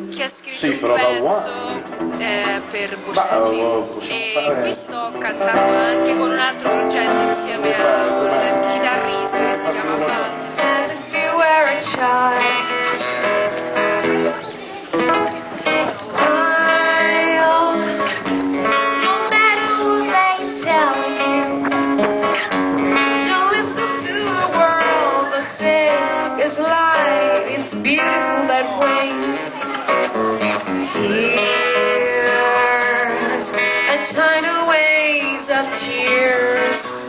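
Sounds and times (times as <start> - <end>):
acoustic guitar: 0.0 - 37.0
woman singing: 0.1 - 13.1, 16.2 - 21.7, 22.3 - 29.7, 30.8 - 37.0.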